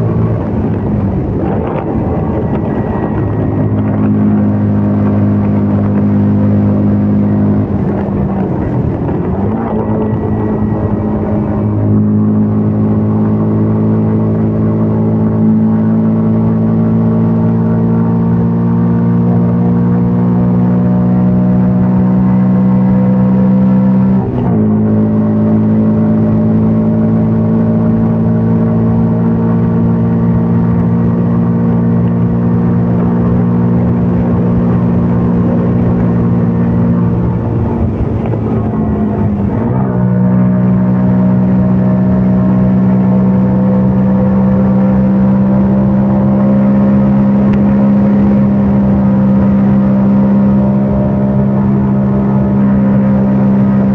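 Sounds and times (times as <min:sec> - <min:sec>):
motorbike engine running: 0:00.0 - 0:53.9.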